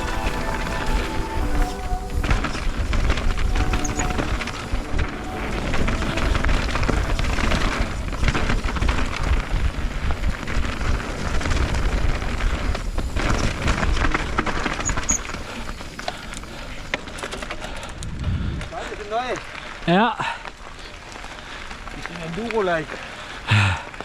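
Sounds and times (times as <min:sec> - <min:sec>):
wind rumbling on microphone: 0:00.0 - 0:19.9
bike tyres rolling over dirt: 0:00.0 - 0:24.0.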